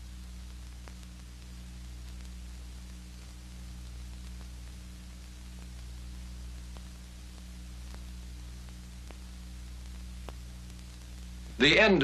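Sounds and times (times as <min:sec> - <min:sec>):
film soundtrack hiss and hum: 0:00.0 - 0:12.0
faint clicks: 0:00.4 - 0:11.6.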